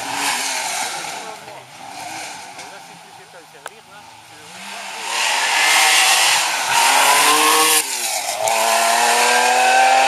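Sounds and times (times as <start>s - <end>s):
rally car passing at full throttle: 0.0s - 10.0s.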